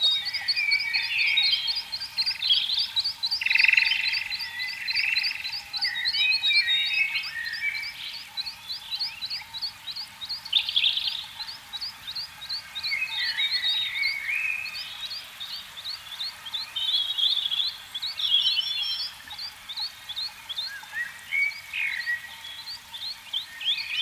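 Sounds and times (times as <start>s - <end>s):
frogs trilling calls: 0.0s - 23.8s
frogs chirping: 0.0s - 24.0s.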